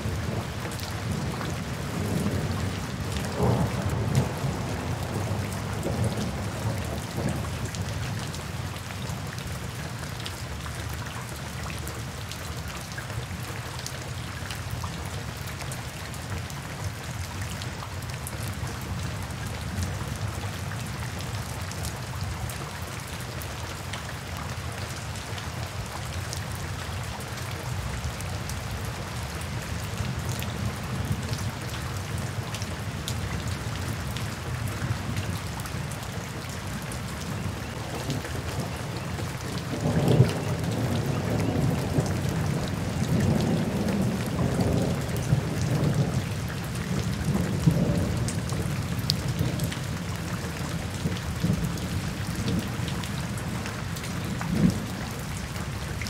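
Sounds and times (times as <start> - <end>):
raindrops ticking close by: 0.0 - 56.0
steady rain in forest: 0.0 - 56.0.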